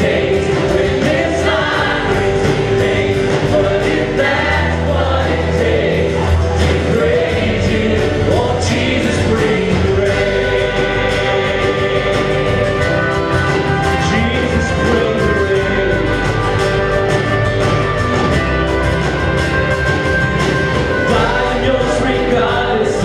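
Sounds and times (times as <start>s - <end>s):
band and choir singing worship song: 0.0s - 18.5s, 19.4s - 23.0s
acoustic guitar: 0.0s - 23.0s.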